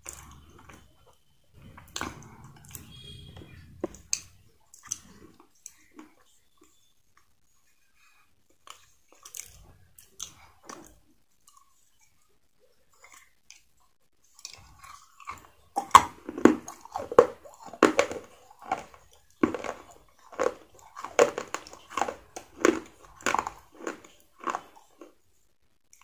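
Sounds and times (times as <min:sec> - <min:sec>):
person chewing crunchy food: 0:00.0 - 0:06.8, 0:08.5 - 0:11.9, 0:12.9 - 0:25.2.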